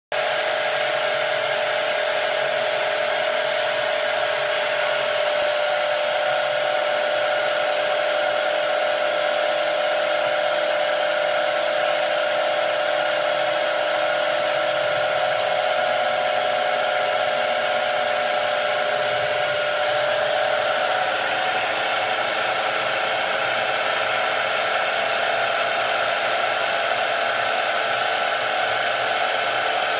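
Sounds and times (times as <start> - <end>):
metal cutting noise: 0.2 - 29.9
mill-drill spindle whine: 0.2 - 29.9.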